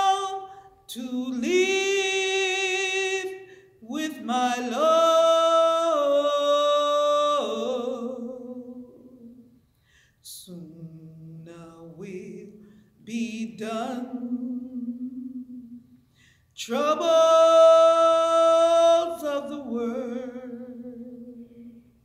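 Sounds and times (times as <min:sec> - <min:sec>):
woman singing a capella: 0:00.0 - 0:09.5, 0:10.2 - 0:15.9, 0:16.6 - 0:21.9.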